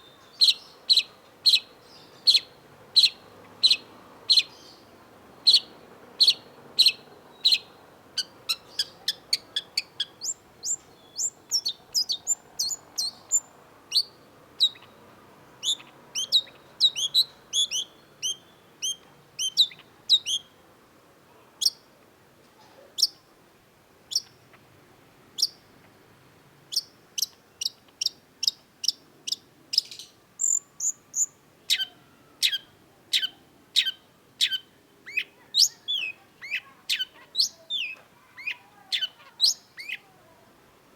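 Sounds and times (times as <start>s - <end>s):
bird chirping: 0.0s - 20.6s, 24.1s - 24.6s, 25.4s - 26.0s, 26.7s - 40.1s.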